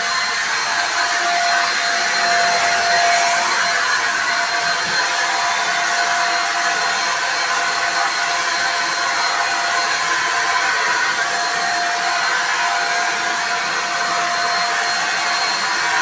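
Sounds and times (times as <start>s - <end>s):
electric paint spray gun running: 0.0s - 16.0s.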